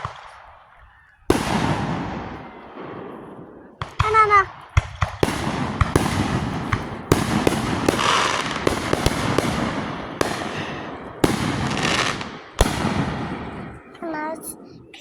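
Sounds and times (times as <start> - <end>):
fireworks bangs: 0.0 - 15.0
fireworks crackling and hissing: 1.3 - 15.0.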